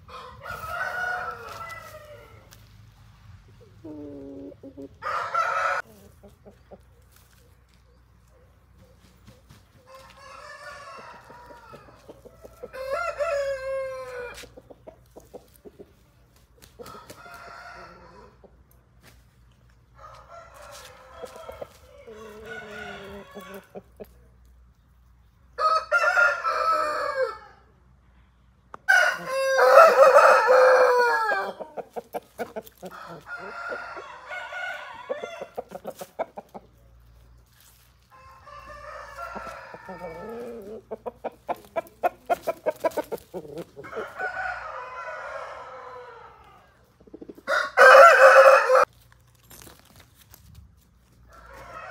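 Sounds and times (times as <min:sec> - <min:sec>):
roosters crowing and clucking: 0:00.0 - 0:51.9.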